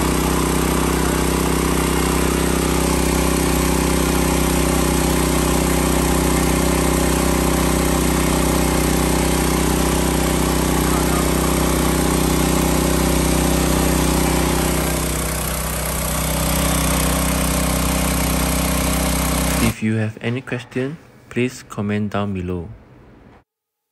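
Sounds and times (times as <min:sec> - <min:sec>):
small engine running: 0:00.0 - 0:19.8.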